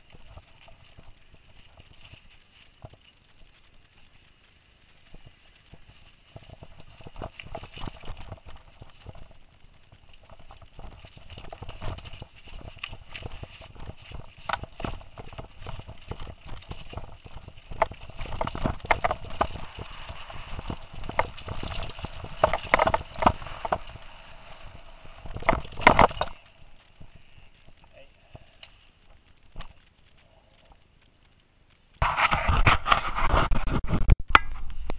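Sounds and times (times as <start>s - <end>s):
bike wheels knocking on rocks: 0.0s - 3.6s, 5.1s - 29.8s.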